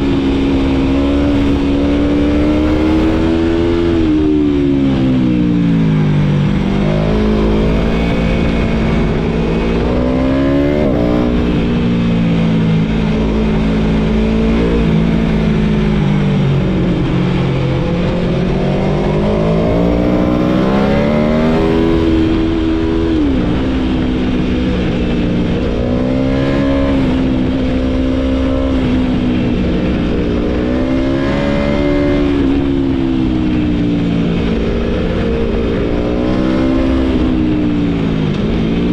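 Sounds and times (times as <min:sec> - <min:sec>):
motorcycle engine revving: 0:00.0 - 0:38.9
steady low rumble: 0:00.0 - 0:38.9.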